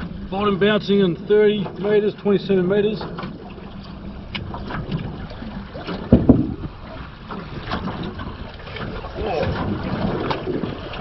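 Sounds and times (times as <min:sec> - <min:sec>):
water slapping boat hull: 0:00.0 - 0:11.0
wind buffeting microphone: 0:00.0 - 0:11.0.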